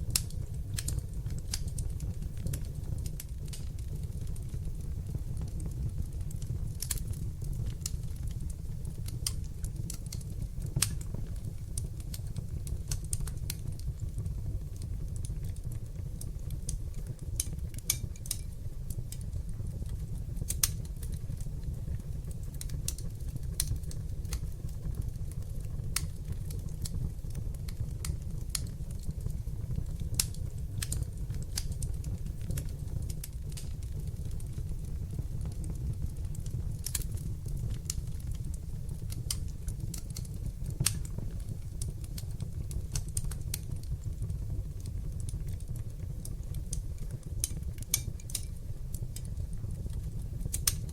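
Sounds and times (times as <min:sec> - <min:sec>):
fire crackling and popping: 0:00.0 - 0:50.9
low rumble of flames: 0:00.0 - 0:50.9.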